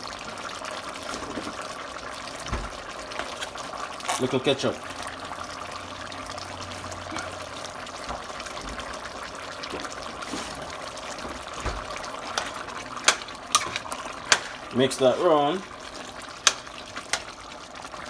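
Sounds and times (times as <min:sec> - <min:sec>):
stew bubbling in a pot: 0:00.0 - 0:18.0.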